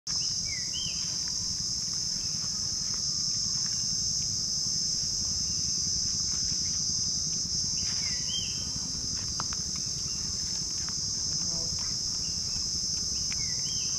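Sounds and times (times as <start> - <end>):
high-pitched insect drone: 0.1 - 13.9.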